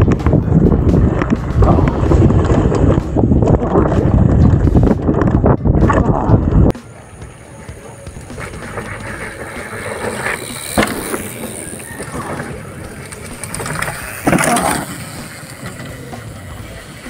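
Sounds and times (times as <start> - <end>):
bicycle tyre rumble and rattle: 0.0 - 17.0.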